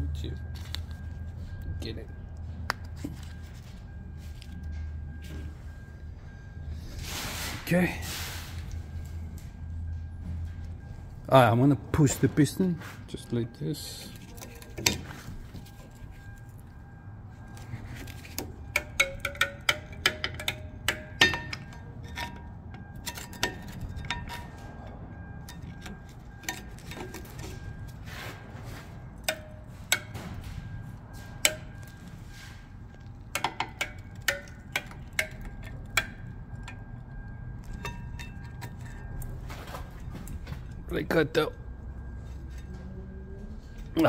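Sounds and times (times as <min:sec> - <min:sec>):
low background hum: 0:00.0 - 0:44.0.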